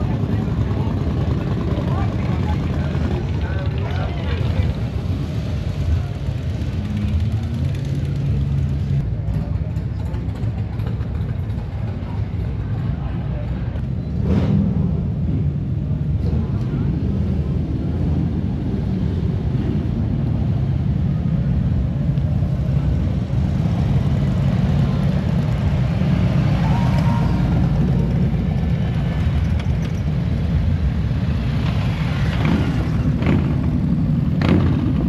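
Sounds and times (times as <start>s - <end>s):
motorcycle engines running: 0.0s - 35.0s.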